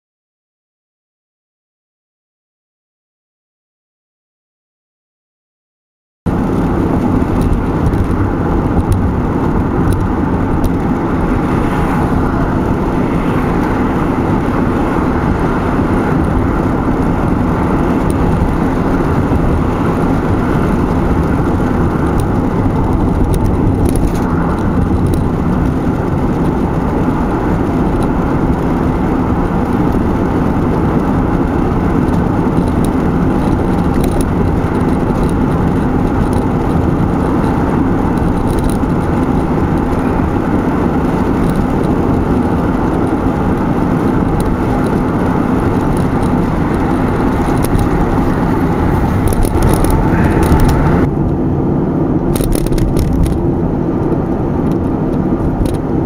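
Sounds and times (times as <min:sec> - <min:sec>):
car cabin road rumble: 0:06.3 - 0:56.0.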